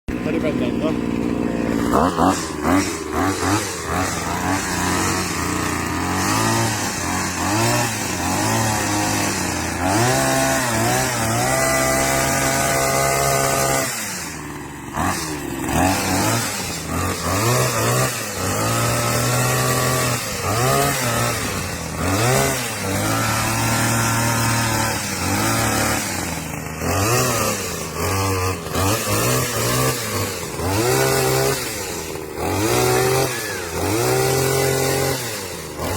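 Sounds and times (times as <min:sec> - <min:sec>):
small two-stroke engine revving: 0:00.1 - 0:35.9.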